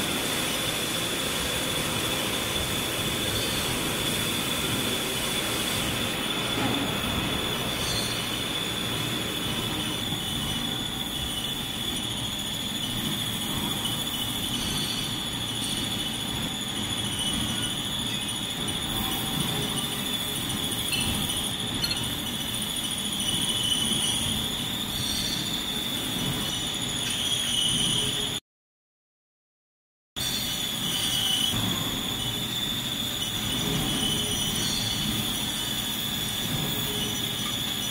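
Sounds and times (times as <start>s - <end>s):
high-pitched whine: 0.0s - 28.4s, 30.2s - 37.9s
machine-shop machinery noise: 0.0s - 28.4s, 30.2s - 37.9s.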